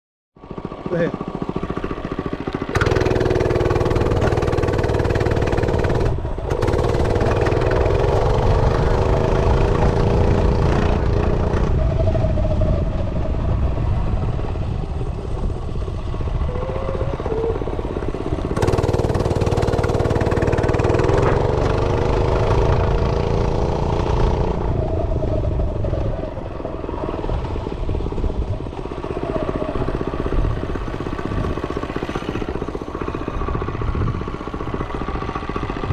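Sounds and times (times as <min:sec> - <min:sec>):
minibike engine revving: 0:00.5 - 0:35.9.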